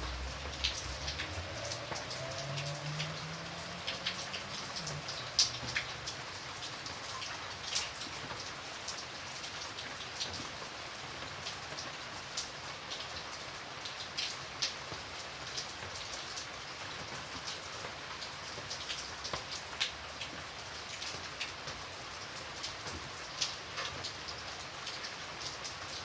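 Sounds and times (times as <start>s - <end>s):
rain falling: 0.0s - 26.0s
raindrops tapping close by: 0.0s - 26.0s.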